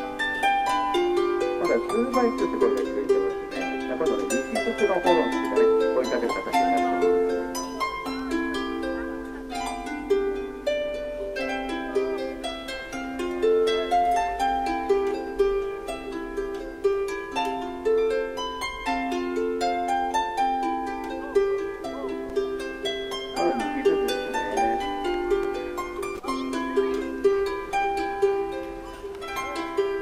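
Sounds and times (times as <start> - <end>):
plucked string melody: 0.0 - 30.0.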